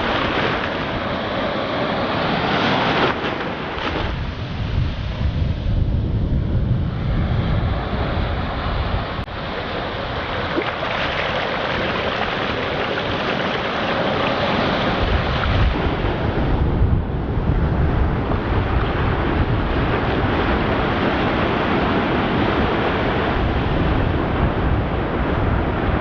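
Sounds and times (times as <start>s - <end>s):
ocean surf on beach: 0.0s - 26.0s
wind buffeting microphone: 0.0s - 26.0s.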